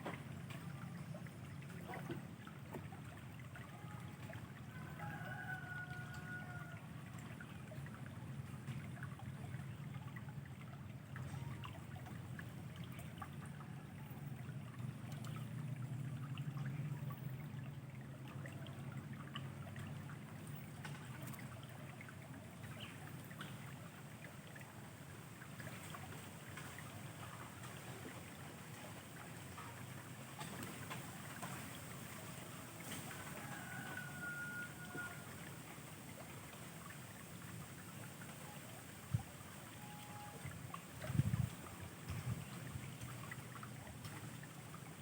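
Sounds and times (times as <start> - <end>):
flowing river water: 0.0 - 45.0.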